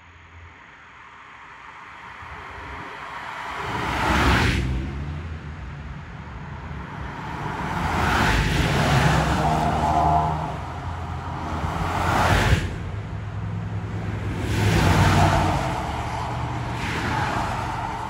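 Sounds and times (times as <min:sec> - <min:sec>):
vehicles passing close by: 0:00.2 - 0:18.0
steady engine whine: 0:02.2 - 0:18.0.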